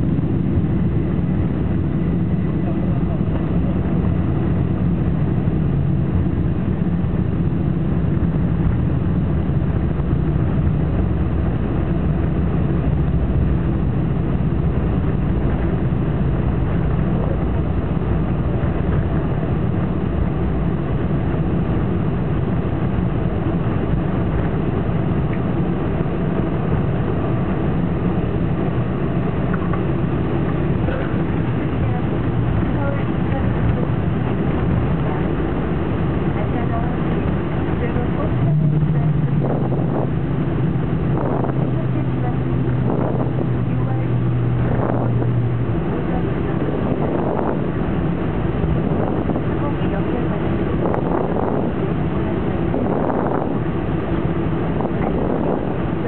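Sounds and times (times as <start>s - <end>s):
airflow noise: 0.0s - 56.0s
jet engines rumbling: 0.0s - 56.0s
wheels on runway: 0.0s - 56.0s.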